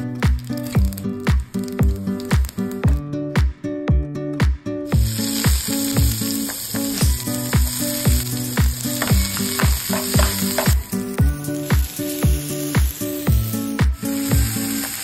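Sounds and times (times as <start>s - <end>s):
onions sizzling in oil: 0.0s - 2.9s, 4.9s - 15.0s
background music with beat: 0.0s - 15.0s.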